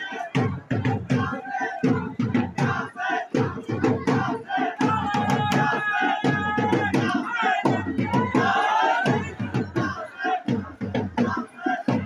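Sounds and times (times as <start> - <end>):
crowd singing a lament: 0.0 - 12.0.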